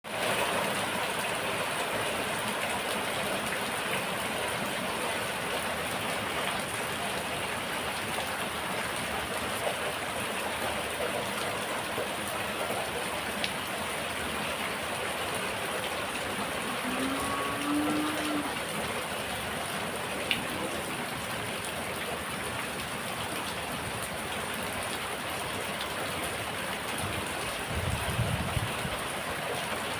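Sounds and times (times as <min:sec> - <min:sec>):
rain falling: 0:00.1 - 0:29.9.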